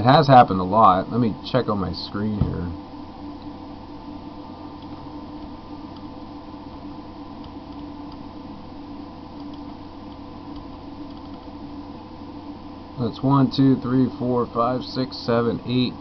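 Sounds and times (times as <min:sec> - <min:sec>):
computer fan hum: 0:00.0 - 0:16.0.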